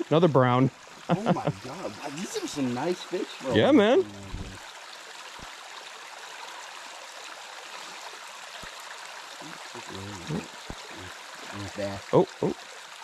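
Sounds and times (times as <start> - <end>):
stream water rushing into pool: 0.0 - 13.0.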